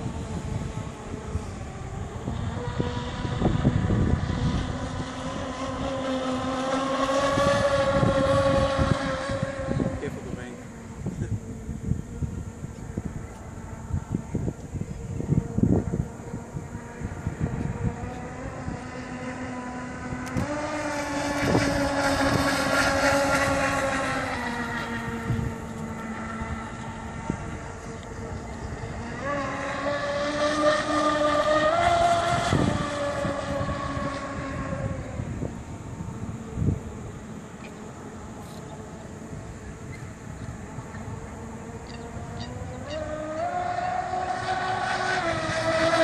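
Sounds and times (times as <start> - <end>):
model boat electric motor whine: 0.0 - 46.0
wind rumble on microphone: 0.0 - 46.0.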